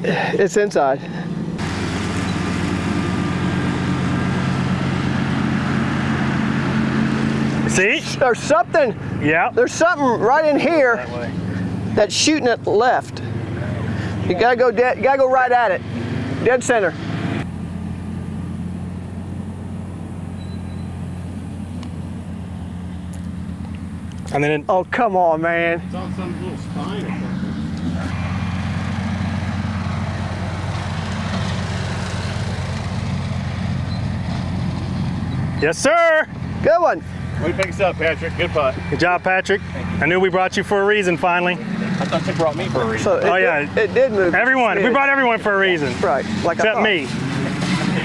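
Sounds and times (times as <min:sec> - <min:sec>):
small engine humming: 0:01.0 - 0:35.7, 0:36.3 - 0:48.0.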